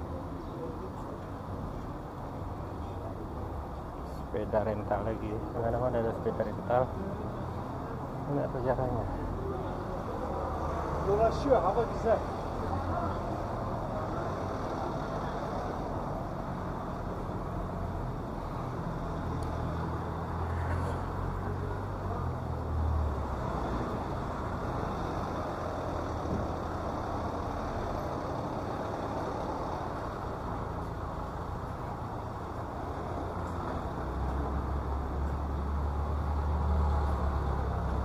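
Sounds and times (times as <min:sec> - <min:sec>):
street traffic passing: 0:00.0 - 0:38.0.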